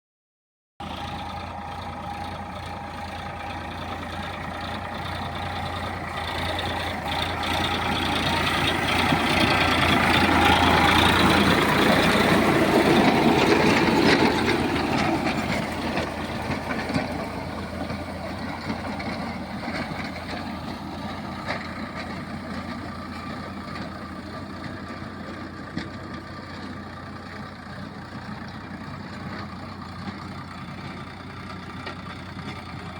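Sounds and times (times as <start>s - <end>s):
tractor engine running: 0.8s - 32.9s.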